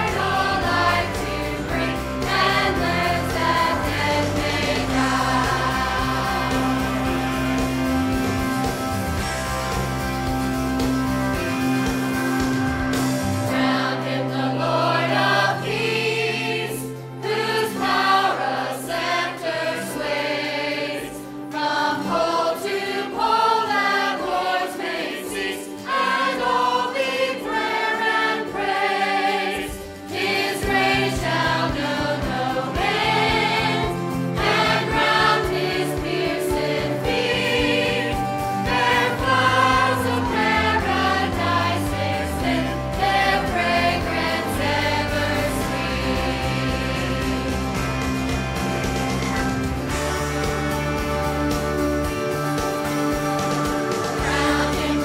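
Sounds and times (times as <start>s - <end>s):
church choir singing gospel: 0.0s - 55.0s.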